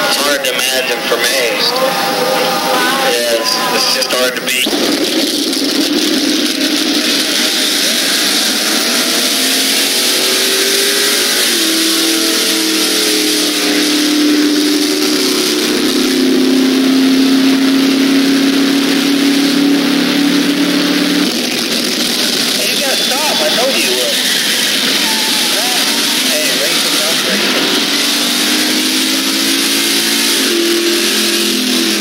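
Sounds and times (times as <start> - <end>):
racing car engine at full throttle: 0.0 - 32.0
tape noise: 0.0 - 32.0.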